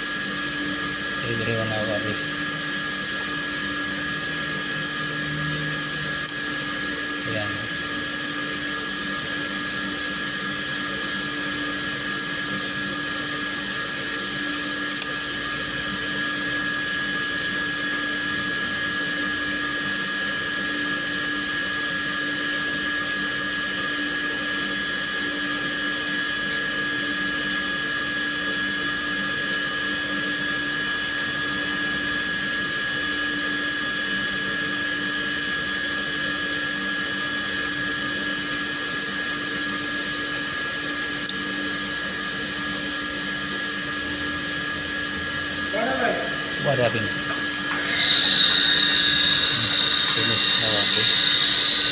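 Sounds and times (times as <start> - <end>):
electric whirring hum: 0.0 - 51.9.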